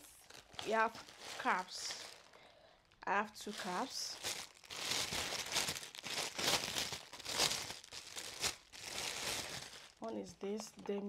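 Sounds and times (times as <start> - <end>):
packaging rustling and crackling: 0.0 - 10.8.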